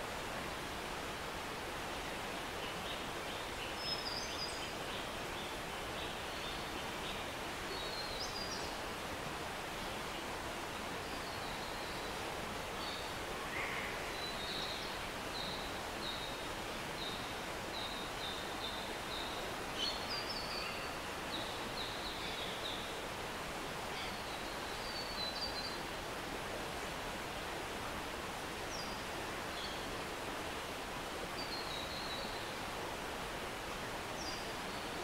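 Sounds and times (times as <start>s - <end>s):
stream rushing: 0.0s - 35.0s.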